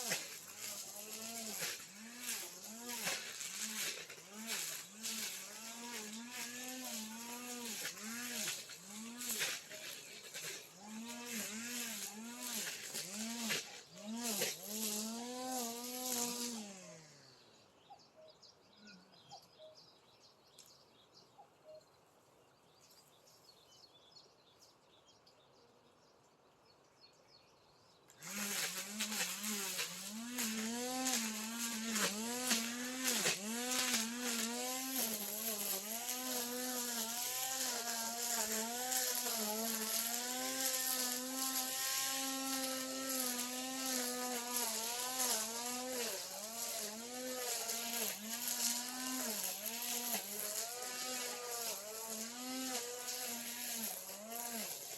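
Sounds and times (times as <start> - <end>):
brush cutter engine: 0.0 - 17.8, 28.1 - 54.9.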